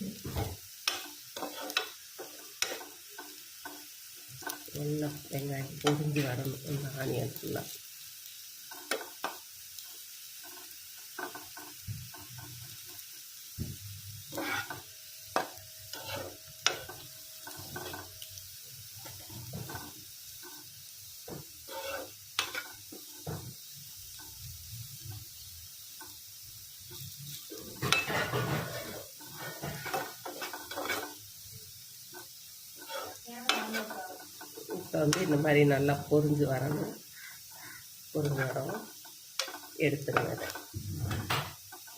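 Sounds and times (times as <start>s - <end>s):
onions sizzling in hot oil: 0.0s - 41.9s
spoon scraping a pan: 0.2s - 7.0s, 8.6s - 18.3s, 19.0s - 25.2s, 26.9s - 31.3s, 32.0s - 41.9s.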